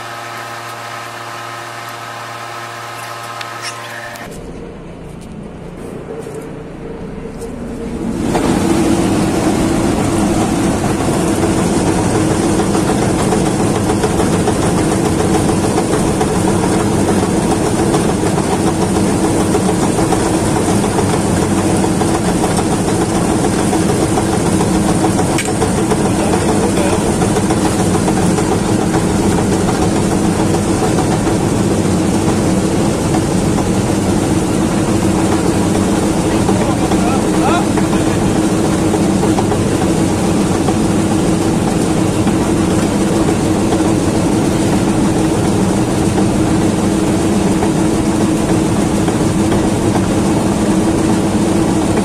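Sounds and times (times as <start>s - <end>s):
loud mechanical hum: 0.0s - 52.0s
truck engine hum: 0.0s - 52.0s.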